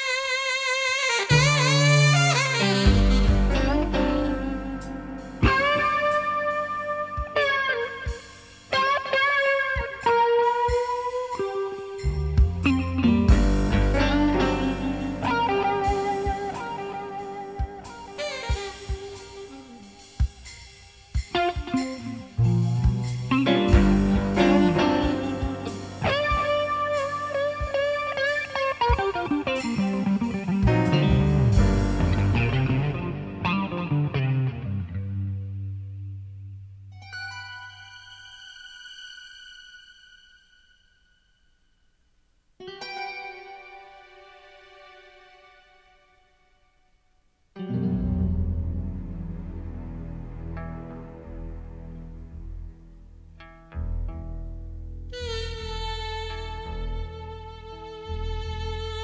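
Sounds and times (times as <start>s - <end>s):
bluesy electric guitar: 0.0s - 36.9s, 47.6s - 59.0s.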